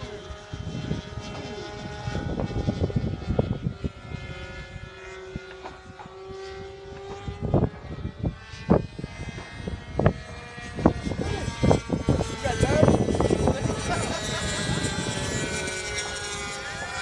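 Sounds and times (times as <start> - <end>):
gusty low rumble: 0.0 - 17.0
model airplane engines: 0.0 - 17.0.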